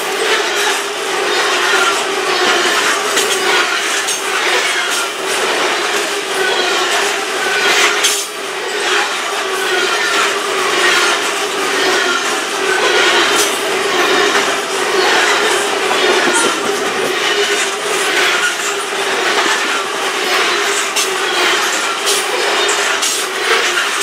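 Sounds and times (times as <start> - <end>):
steel wheels rumbling on rail: 0.0 - 24.0
thin wheel squeal: 0.1 - 24.0.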